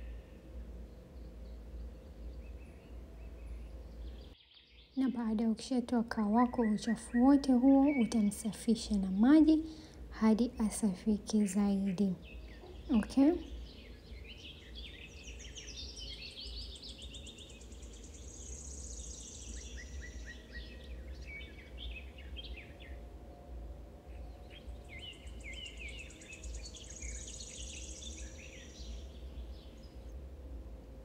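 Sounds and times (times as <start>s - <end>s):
songbird singing: 0.0s - 31.0s
steady low hum: 0.0s - 31.0s.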